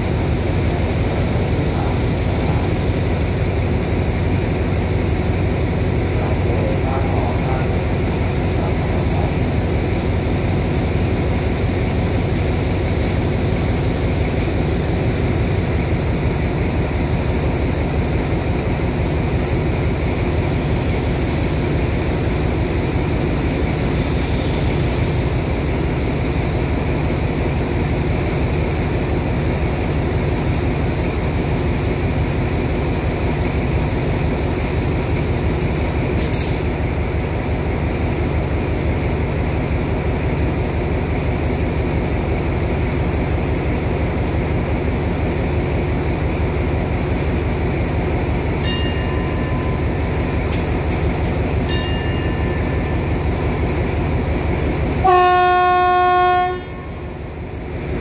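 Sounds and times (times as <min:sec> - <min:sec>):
diesel train engine idling: 0:00.0 - 0:58.0.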